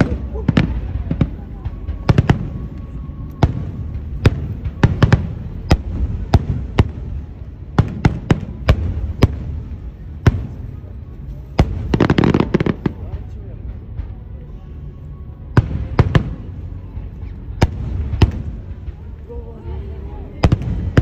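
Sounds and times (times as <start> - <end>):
fireworks bursting with sharp bangs: 0.0 - 21.0
low rumble: 0.0 - 21.0.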